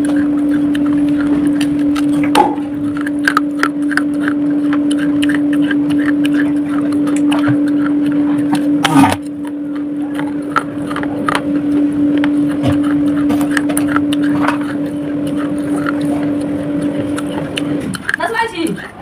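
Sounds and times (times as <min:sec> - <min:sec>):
crunching clay shard: 0:00.0 - 0:18.3
air cooler electric hum: 0:00.0 - 0:19.0.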